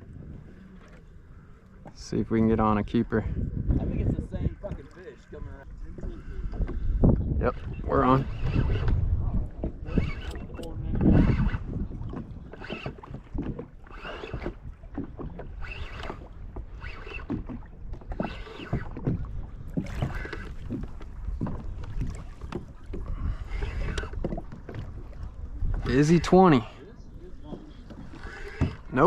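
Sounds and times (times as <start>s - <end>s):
water sloshing against kayak hull: 0.0s - 29.0s
wind rumble on microphone: 0.0s - 29.0s.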